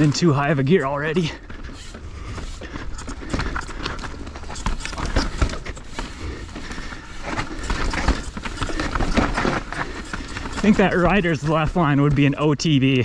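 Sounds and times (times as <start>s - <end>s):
bike rattling on rocky trail: 0.0s - 13.0s.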